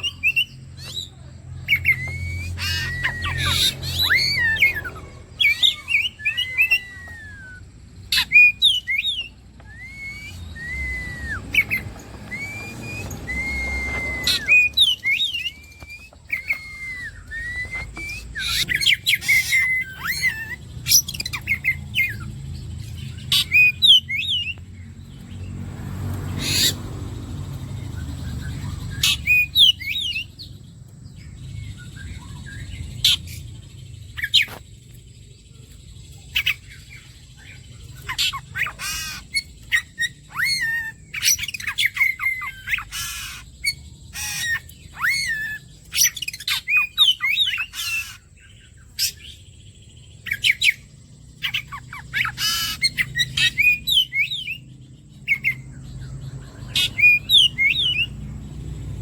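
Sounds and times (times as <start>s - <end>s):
bird singing whistled notes: 0.0s - 25.6s, 26.2s - 59.0s.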